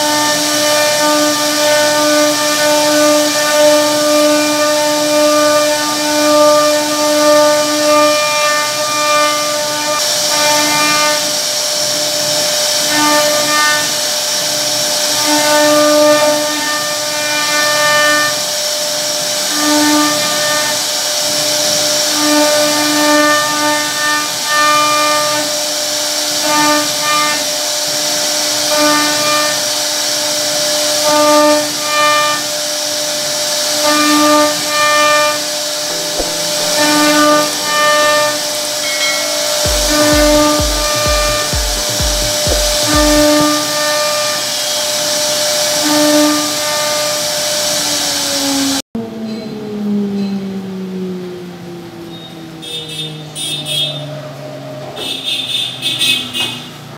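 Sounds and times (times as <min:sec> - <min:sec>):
wood cutting hiss: 0:00.0 - 0:48.7
router spindle high whine: 0:00.0 - 0:48.8.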